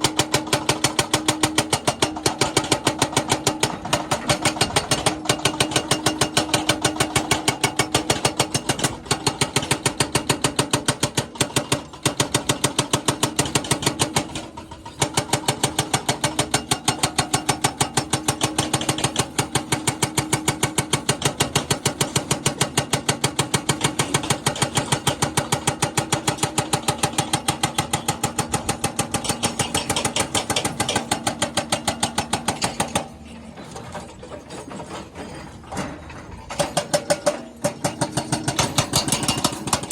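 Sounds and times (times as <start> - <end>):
jackhammer hammering: 0.0 - 35.9, 36.5 - 39.9.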